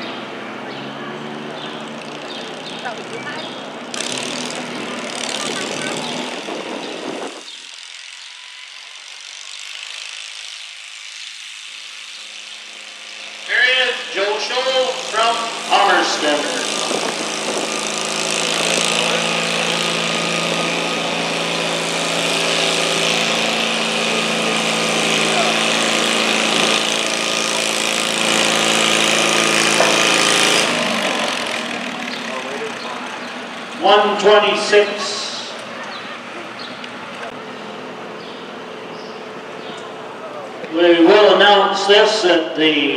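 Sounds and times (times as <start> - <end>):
garden tractor engine running: 0.0 - 42.9.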